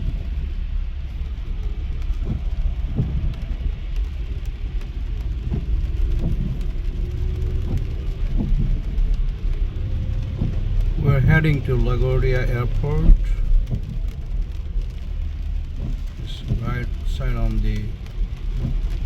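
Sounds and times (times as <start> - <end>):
car engine and tyres rumbling: 0.0 - 19.0
rain noise: 0.0 - 19.0
short thumps and light ticks: 1.1 - 11.6, 12.7 - 19.0.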